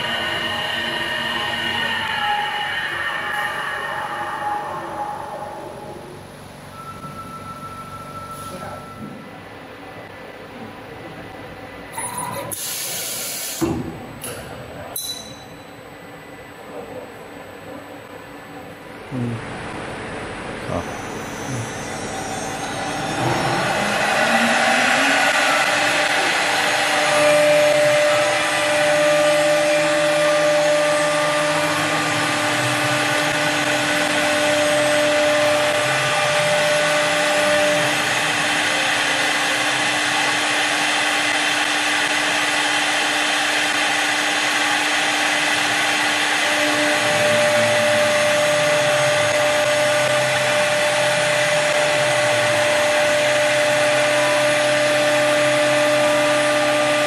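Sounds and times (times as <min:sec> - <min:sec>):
lathe machine whine: 0:00.0 - 0:09.1, 0:20.0 - 0:57.0.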